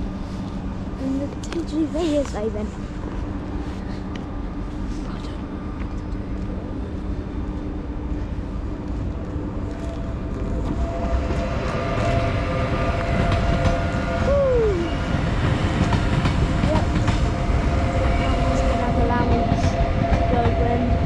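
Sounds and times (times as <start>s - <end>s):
electric train rumbling past: 0.0s - 21.0s
steady train whine: 0.0s - 21.0s.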